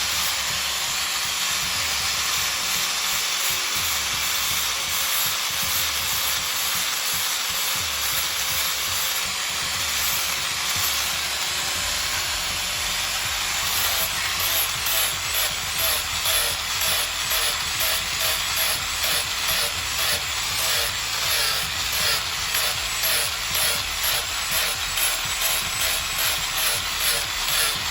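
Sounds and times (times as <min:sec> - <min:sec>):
power sander on wood: 0:00.0 - 0:27.9.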